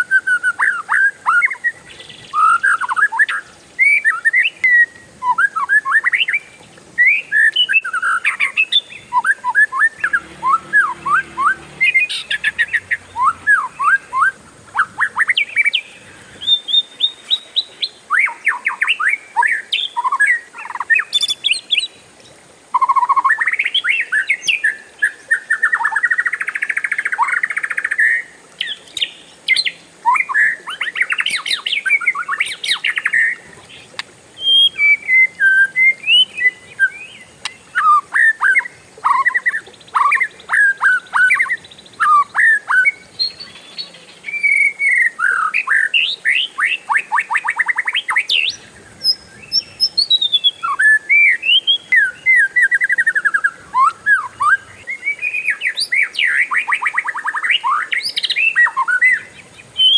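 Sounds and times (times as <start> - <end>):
bird singing whistles and chirps: 0.0 - 22.0, 22.7 - 59.9.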